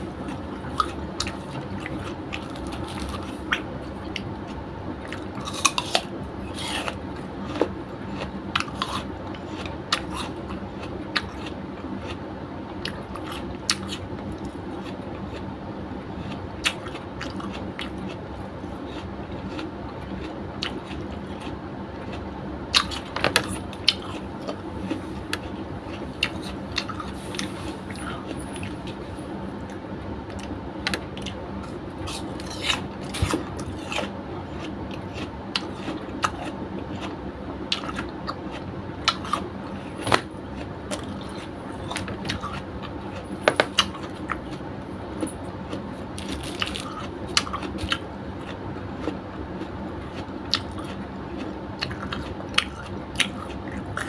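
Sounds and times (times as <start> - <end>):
chewing crisp apple: 0.0 - 54.0.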